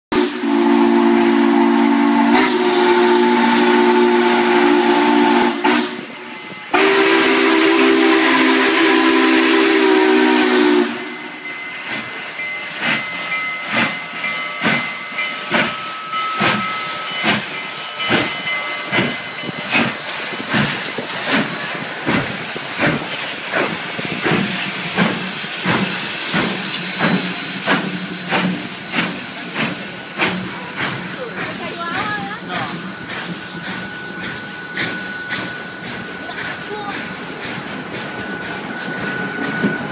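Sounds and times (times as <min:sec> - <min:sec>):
steam locomotive chime whistle: 0:00.1 - 0:39.9
train wheels clacking: 0:00.2 - 0:39.9.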